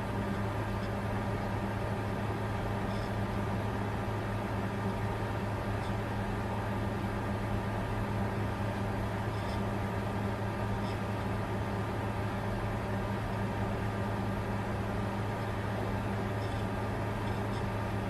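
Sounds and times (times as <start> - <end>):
computer cooling fans whirring: 0.0 - 18.0.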